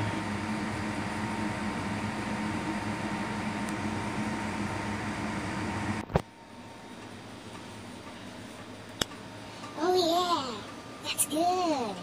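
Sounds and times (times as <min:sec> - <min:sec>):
electric fan running: 0:00.0 - 0:12.0.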